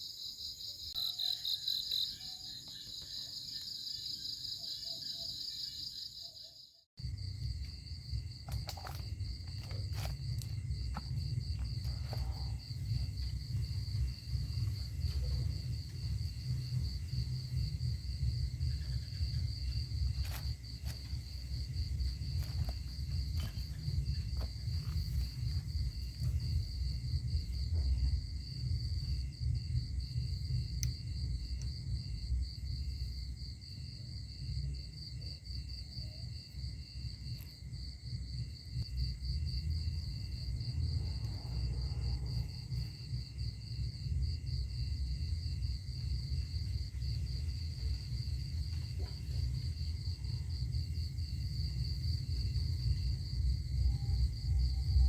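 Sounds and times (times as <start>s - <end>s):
crickets chirping: 0.0s - 55.0s
constant low rumble: 7.0s - 55.0s.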